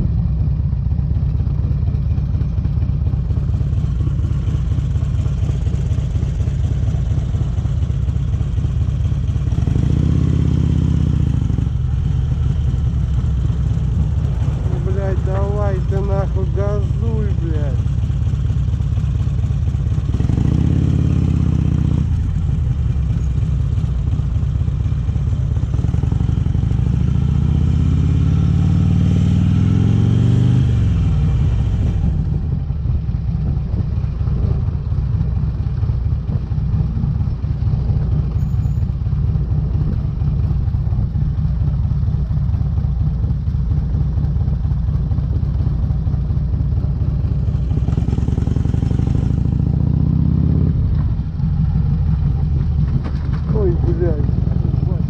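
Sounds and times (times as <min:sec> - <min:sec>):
motorcycle engine revving: 0:01.1 - 0:55.0.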